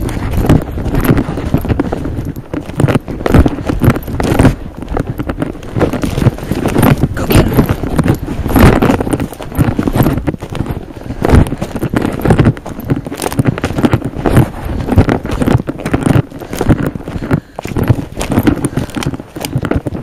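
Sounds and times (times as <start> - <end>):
footfalls crunching through dry brush: 0.0 - 20.0.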